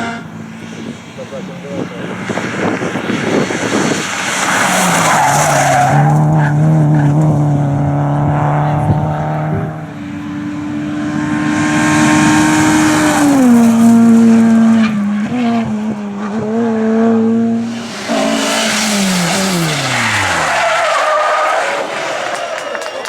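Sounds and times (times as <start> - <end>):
rally car engine revving: 0.0 - 22.9
tyres skidding: 0.0 - 23.0.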